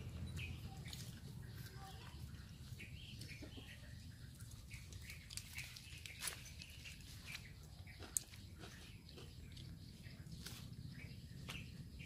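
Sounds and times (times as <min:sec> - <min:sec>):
faint bird chirps: 0:00.0 - 0:12.0
low outdoor rumble: 0:00.0 - 0:12.0.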